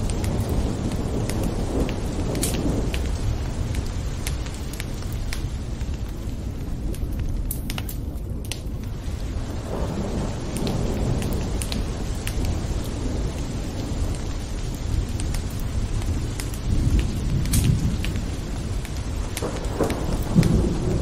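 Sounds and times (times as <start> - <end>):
rolling thunder rumble: 0.0 - 21.0
sharp raindrop ticks: 0.0 - 21.0
steady rain: 0.0 - 21.0.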